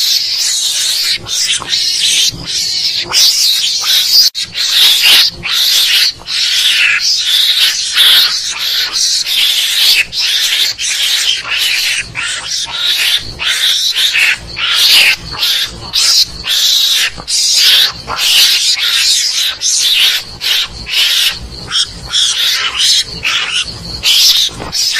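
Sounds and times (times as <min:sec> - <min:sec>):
mongoose rasping chatter: 0:00.0 - 0:24.9.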